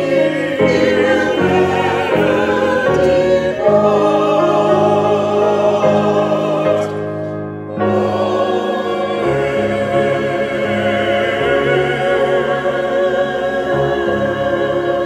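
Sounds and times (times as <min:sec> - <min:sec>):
choir singing sacred music: 0:00.0 - 0:15.0.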